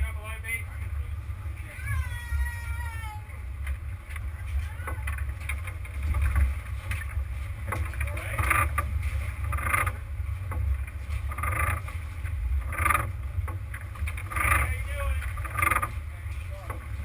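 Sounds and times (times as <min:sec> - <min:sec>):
boat engine rumble: 0:00.0 - 0:17.0.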